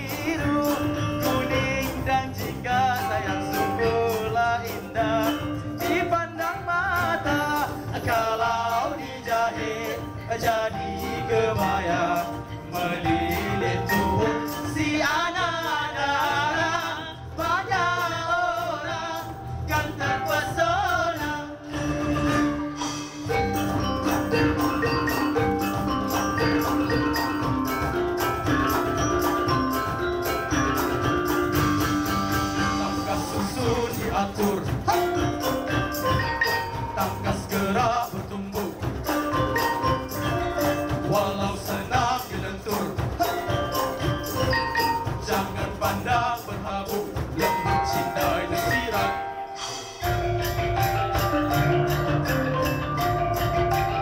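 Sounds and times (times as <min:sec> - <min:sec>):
gamelan ensemble playing: 0:00.0 - 0:54.0
hand drums: 0:00.0 - 0:54.0.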